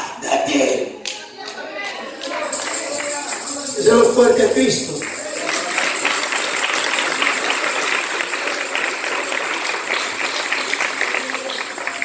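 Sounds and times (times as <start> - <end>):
congregation applauding: 2.1 - 12.0.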